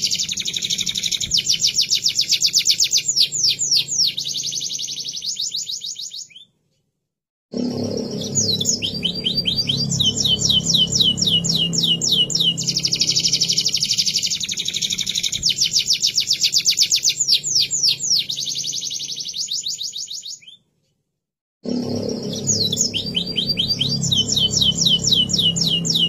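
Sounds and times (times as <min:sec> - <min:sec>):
canary singing rolling trills: 0:00.0 - 0:06.5, 0:07.6 - 0:20.6, 0:21.7 - 0:26.0.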